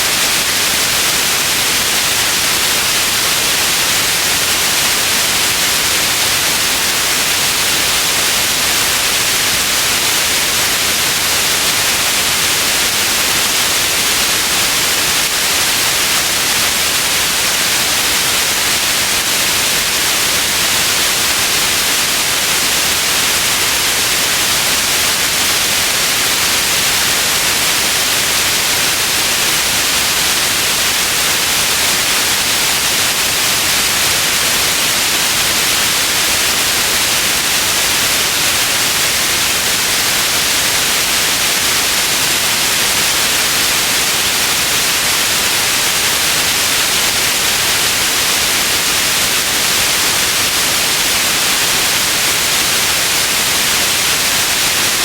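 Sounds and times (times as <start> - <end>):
white noise: 0.0 - 55.0.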